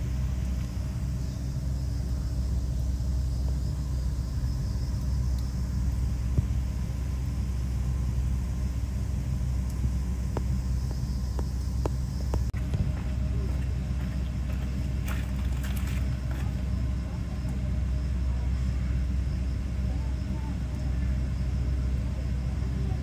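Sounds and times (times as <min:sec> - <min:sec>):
low mechanical rumble and hum: 0:00.0 - 0:23.0.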